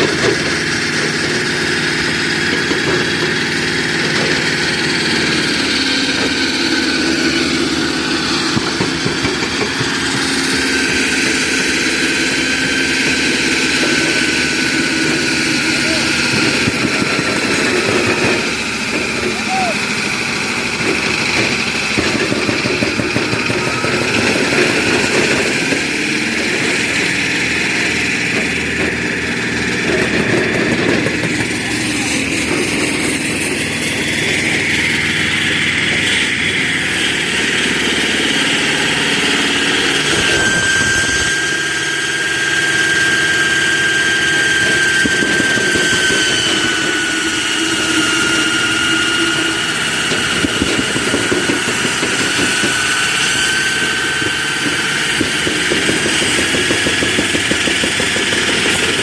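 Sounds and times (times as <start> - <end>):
concrete cutting machine engine: 0.0 - 59.0
high whine: 0.0 - 59.0.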